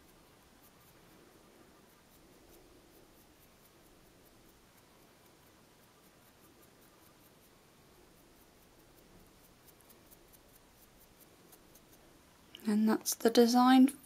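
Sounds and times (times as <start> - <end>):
brush sweeping fingernail: 0.0 - 12.2.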